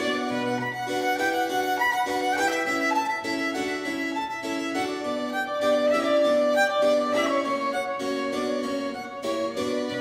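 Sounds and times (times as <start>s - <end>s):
keyboard accompaniment: 0.0s - 10.0s
violin melody: 0.0s - 10.0s.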